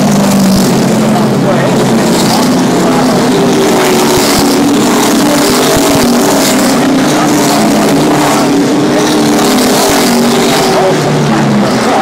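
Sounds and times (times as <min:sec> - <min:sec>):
drone of race truck engines: 0:00.0 - 0:12.0.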